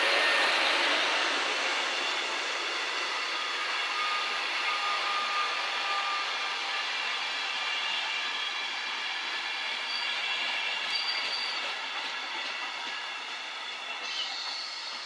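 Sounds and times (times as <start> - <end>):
high squealing from wheels: 0.0 - 15.0
train wheels rolling on rails: 0.0 - 15.0.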